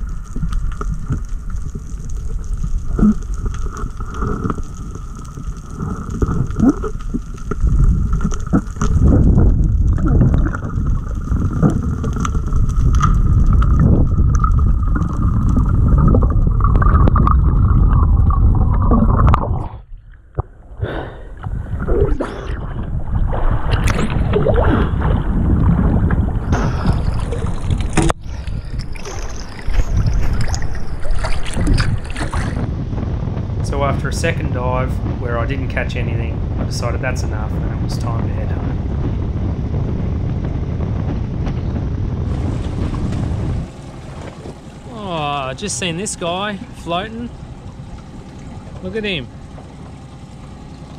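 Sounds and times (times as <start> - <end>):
muffled underwater wash: 0.0 - 50.9
water lapping and splashing: 0.0 - 50.9.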